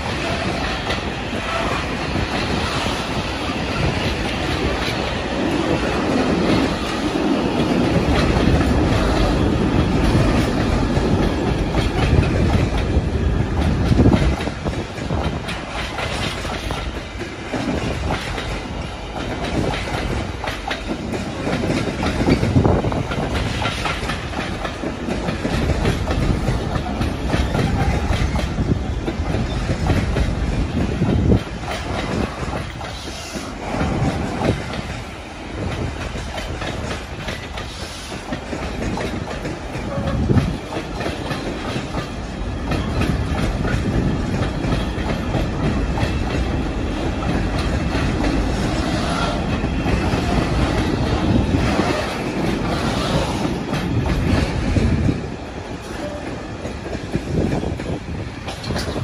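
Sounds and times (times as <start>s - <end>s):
freight train rumbling past: 0.0s - 59.0s
train wheels clacking on rail joints: 0.0s - 59.0s.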